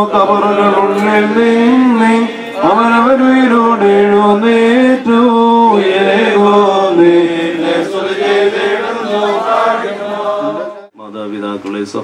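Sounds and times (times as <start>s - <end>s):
voices chanting a hymn: 0.0s - 10.9s.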